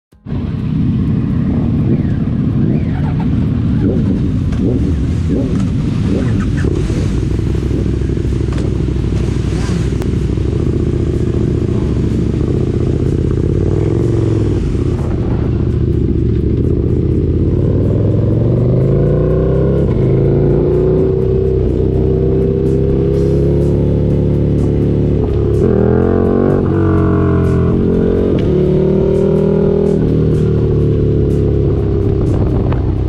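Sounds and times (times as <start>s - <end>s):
motorcycle accelerating: 0.1s - 33.0s
motorcycle engines idling: 0.2s - 33.0s.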